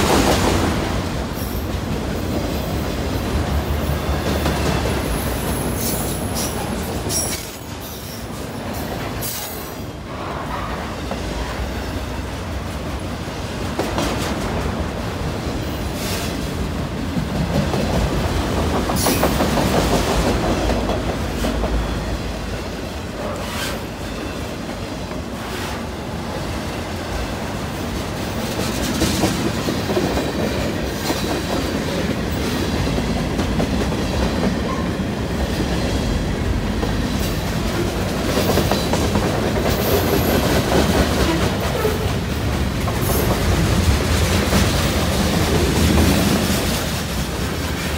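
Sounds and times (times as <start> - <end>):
clickety-clack over rail joints: 0.0 - 47.9
train wheels rumbling on rails: 0.0 - 47.9.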